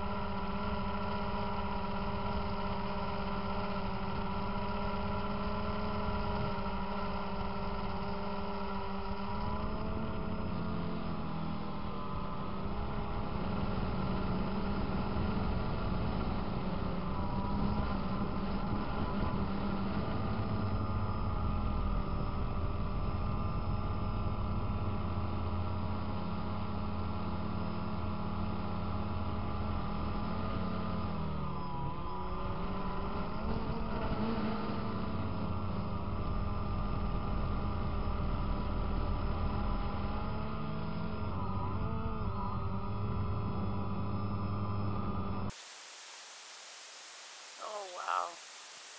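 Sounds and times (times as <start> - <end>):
drone motors droning: 0.0 - 48.9.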